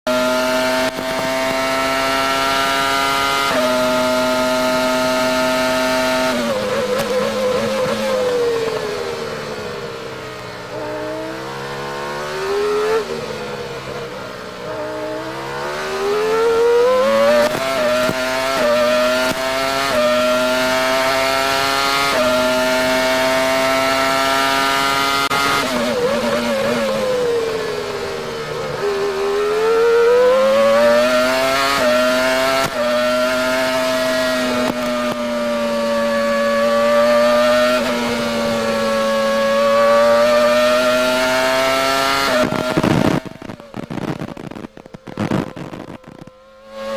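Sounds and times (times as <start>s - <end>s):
racing car engine shifting gears: 0.2s - 9.3s, 10.7s - 46.9s.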